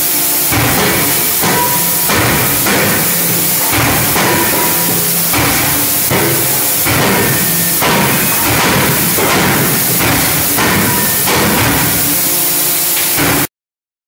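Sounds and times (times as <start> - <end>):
steady hiss: 0.0 - 13.5
forging hammer heavy blows: 0.5 - 12.4, 13.1 - 13.5.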